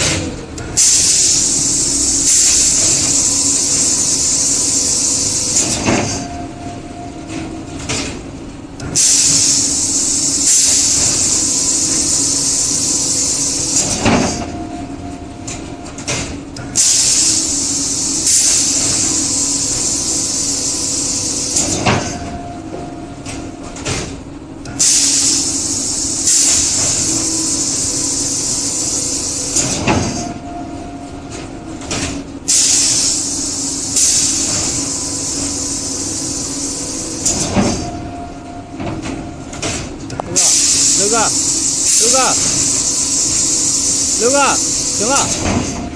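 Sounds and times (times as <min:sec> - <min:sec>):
loud air hiss: 0:00.0 - 0:06.3, 0:08.8 - 0:14.6, 0:16.1 - 0:22.2, 0:23.8 - 0:30.5, 0:32.0 - 0:38.1, 0:39.6 - 0:45.9
steady machine hum: 0:00.0 - 0:45.9.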